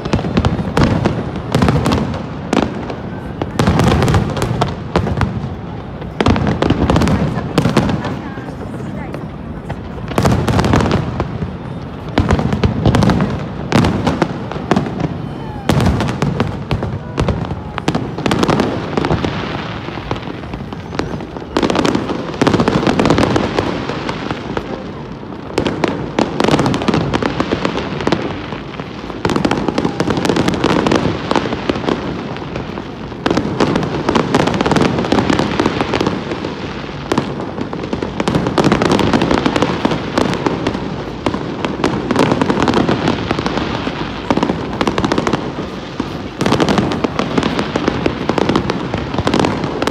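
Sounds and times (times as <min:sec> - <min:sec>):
fireworks bursting with bangs: 0:00.0 - 0:49.9.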